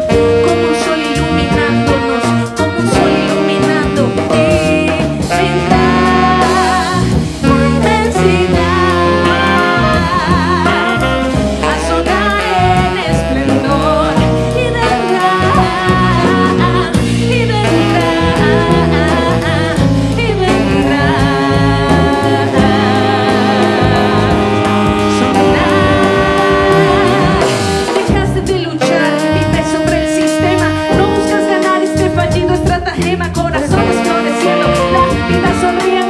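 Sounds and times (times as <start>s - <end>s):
instrumental backing: 0.0s - 36.0s
person singing with vibrato: 0.0s - 36.0s.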